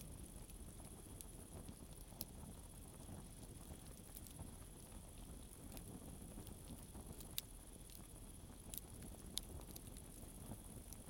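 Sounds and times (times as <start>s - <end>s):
campfire crackling and popping: 0.1s - 11.0s.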